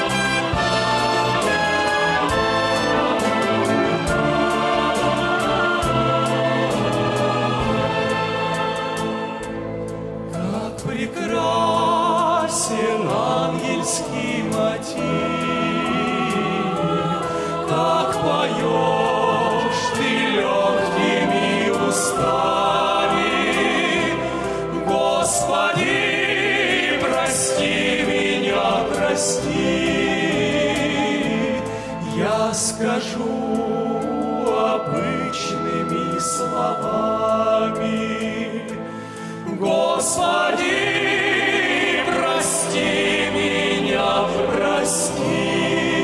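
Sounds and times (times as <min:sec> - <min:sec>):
choir singing devotional song: 0:00.0 - 0:46.0.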